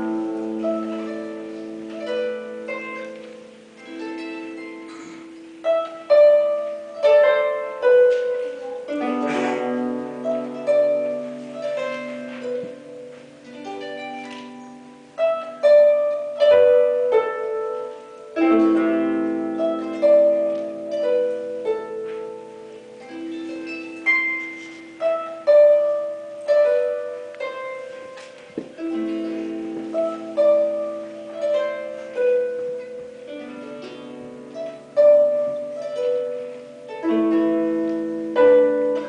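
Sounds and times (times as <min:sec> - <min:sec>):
solo harp music: 0:00.0 - 0:39.0.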